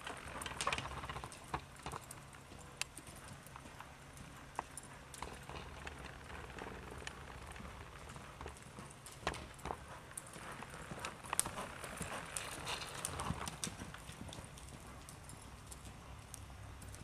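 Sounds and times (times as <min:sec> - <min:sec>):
horse hoofbeats on soft dirt: 0:00.0 - 0:17.0.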